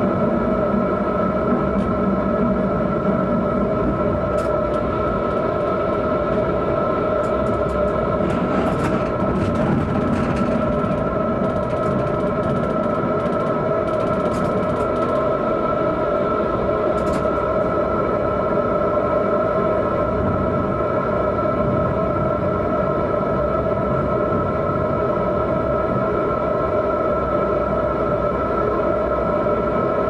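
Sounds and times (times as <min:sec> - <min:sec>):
tram whine: 0:00.0 - 0:30.0
wheels rumbling on rail: 0:00.0 - 0:30.0.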